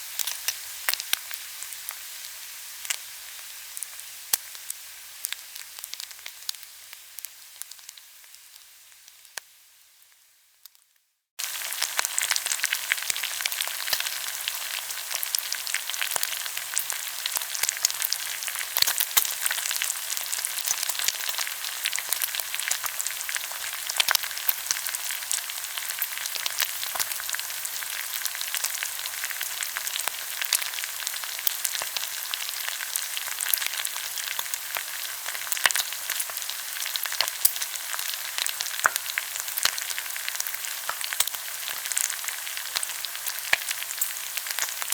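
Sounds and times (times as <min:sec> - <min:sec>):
meat sizzling on a grill: 0:00.0 - 0:44.9.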